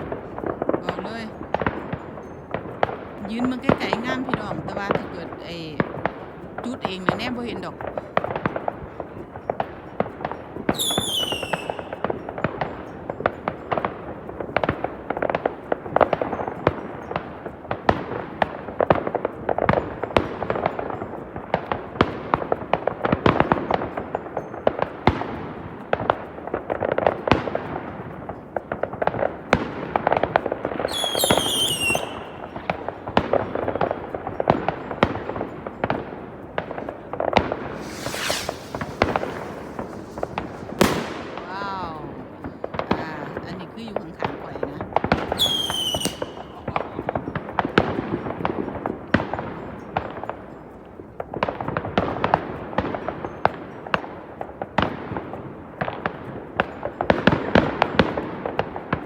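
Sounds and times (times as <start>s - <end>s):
fireworks crackling bangs: 0.0s - 50.6s
whistling fireworks: 0.0s - 50.8s.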